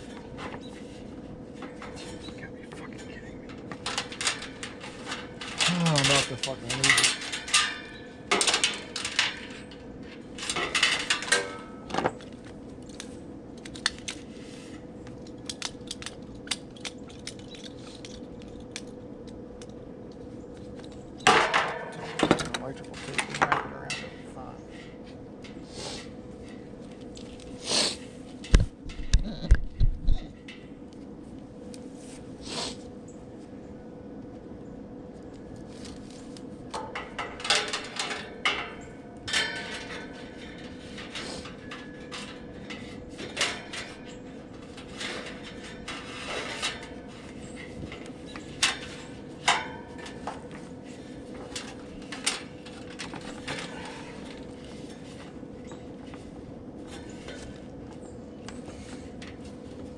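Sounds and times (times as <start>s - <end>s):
clicks and rustles of handling: 0.0s - 27.6s, 35.1s - 59.9s
faint steady hum: 0.0s - 59.9s.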